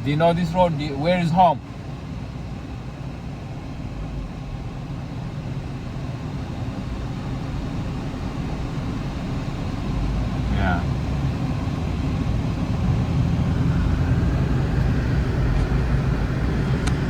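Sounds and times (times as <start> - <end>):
air conditioning blowing: 0.0 - 17.0
car engine running: 0.0 - 17.0.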